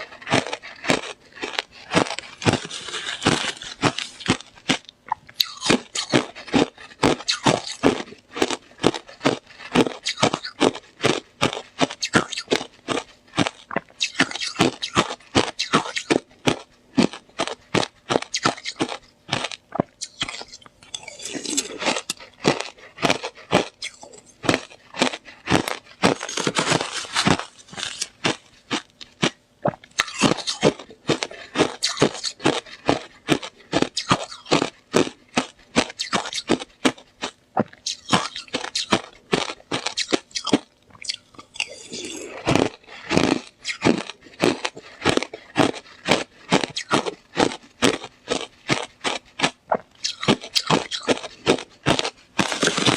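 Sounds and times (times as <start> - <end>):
slushy ice being chewed: 0.0 - 52.9.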